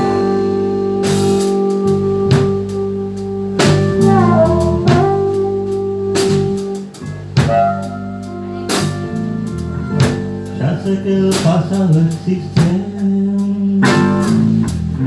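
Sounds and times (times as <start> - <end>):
live blues band playing: 0.0 - 15.0.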